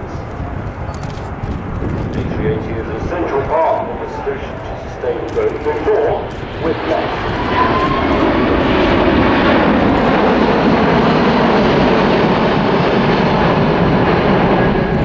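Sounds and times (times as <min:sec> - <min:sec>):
jet airliner in flight: 0:00.0 - 0:15.0.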